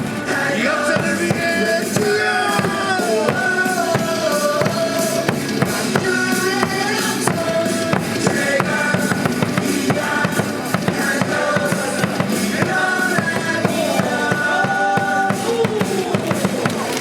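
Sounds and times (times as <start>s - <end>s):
cheer music with drum beat: 0.0s - 17.0s.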